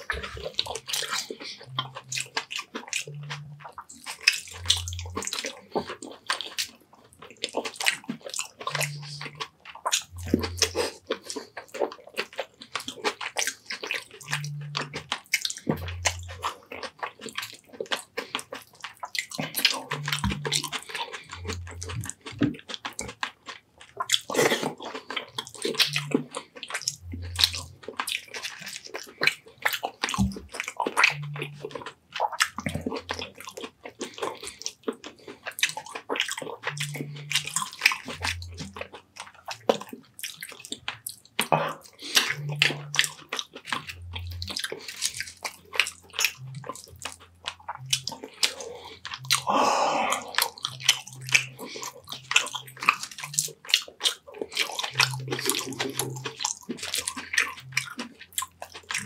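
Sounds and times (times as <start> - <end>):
wet chewing and mouth smacking: 0.0 - 59.0.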